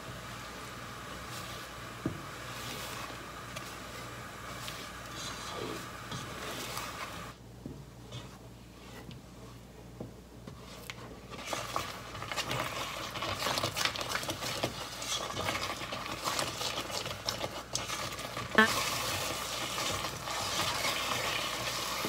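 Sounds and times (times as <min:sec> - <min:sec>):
spatula scraping a pot: 0:01.0 - 0:07.4, 0:08.0 - 0:22.0.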